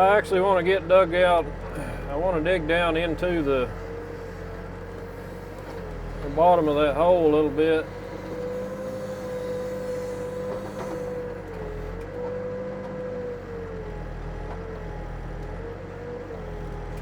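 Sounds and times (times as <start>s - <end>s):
backhoe diesel engine: 0.0s - 17.0s
engine whine: 0.0s - 17.0s.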